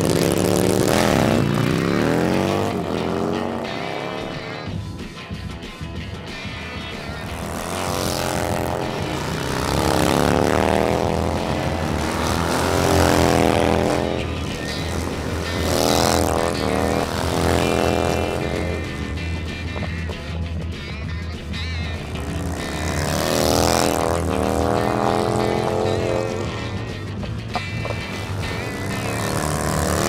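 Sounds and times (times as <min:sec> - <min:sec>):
background music: 0:00.0 - 0:30.0
motorcycles revving and passing: 0:00.0 - 0:30.0.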